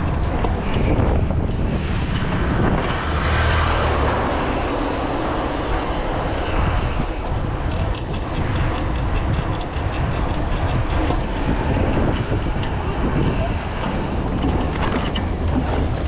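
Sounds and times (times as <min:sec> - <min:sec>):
bike tyres rolling on road: 0:00.0 - 0:16.0
wind buffeting microphone: 0:00.0 - 0:16.0.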